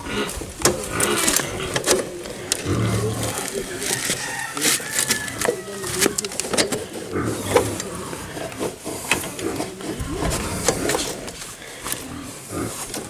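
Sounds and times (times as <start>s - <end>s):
tools and metal parts clicking: 0.0s - 12.2s.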